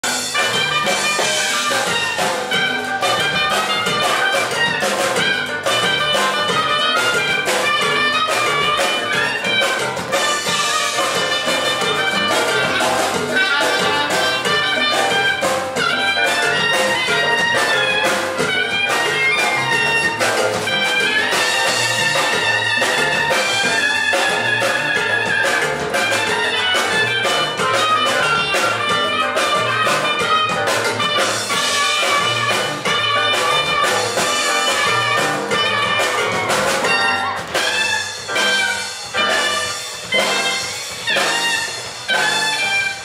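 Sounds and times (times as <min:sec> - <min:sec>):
drums steady beat: 0:00.0 - 0:43.0
live jazz band: 0:00.0 - 0:43.0.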